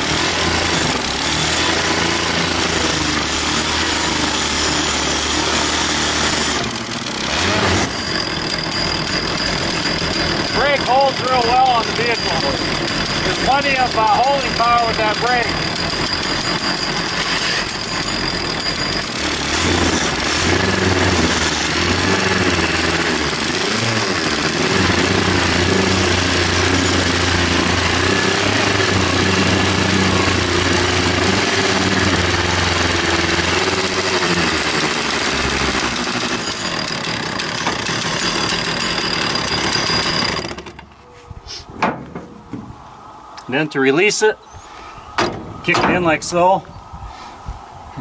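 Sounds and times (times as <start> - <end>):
chainsaw engine running flat out: 0.0 - 40.9.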